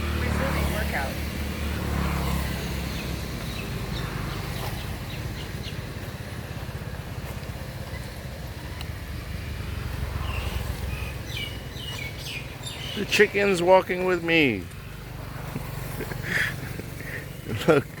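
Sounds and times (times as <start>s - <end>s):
small birds chirping: 2.1s - 18.0s.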